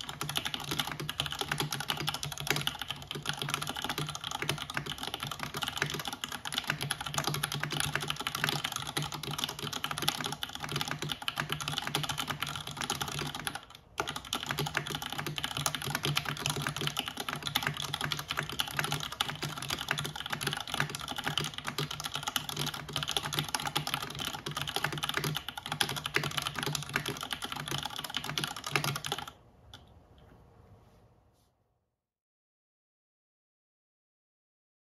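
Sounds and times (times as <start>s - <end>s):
mechanical keyboard typing: 0.0s - 29.8s.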